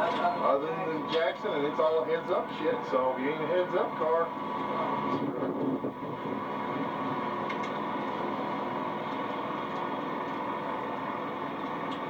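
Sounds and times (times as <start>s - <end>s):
running vehicle hum: 0.0s - 12.0s.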